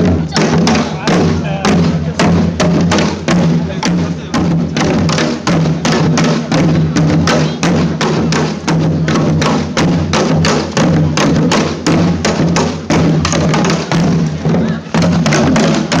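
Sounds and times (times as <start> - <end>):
percussion ensemble drumming: 0.0 - 16.0.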